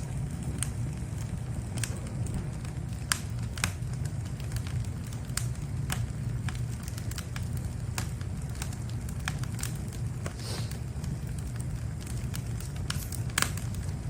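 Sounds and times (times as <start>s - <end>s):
fire low rumble: 0.0s - 14.0s
firewood crackling and popping: 0.0s - 14.0s.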